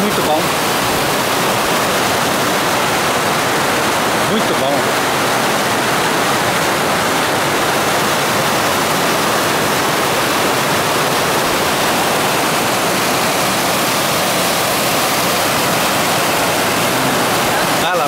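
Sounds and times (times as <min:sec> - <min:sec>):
waterfall rushing over rocks: 0:00.0 - 0:18.0.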